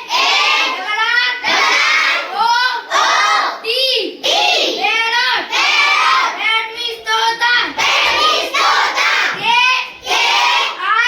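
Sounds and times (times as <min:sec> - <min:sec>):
children chanting together: 0:00.0 - 0:11.0.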